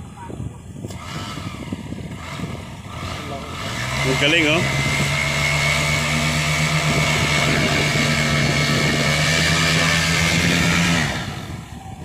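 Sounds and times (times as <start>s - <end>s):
paramotor engine running: 0.0s - 12.0s
high whine: 0.9s - 12.0s.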